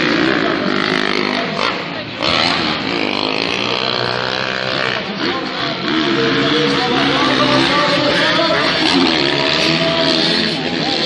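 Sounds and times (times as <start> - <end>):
racing engines revving: 0.0 - 11.0.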